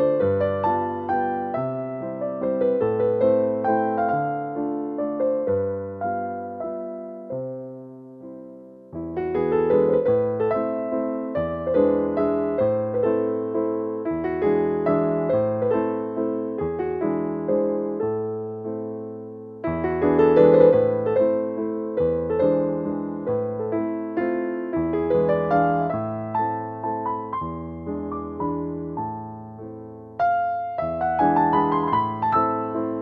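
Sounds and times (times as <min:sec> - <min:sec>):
background piano music: 0:00.0 - 0:33.0.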